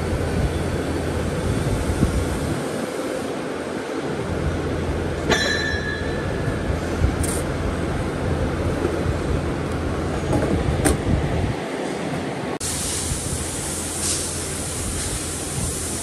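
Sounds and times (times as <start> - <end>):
workshop machinery rumble: 0.0 - 16.0.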